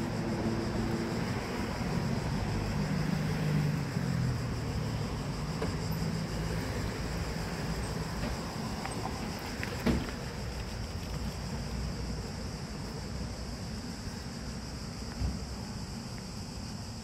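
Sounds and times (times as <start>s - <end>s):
background traffic noise: 0.0s - 17.0s.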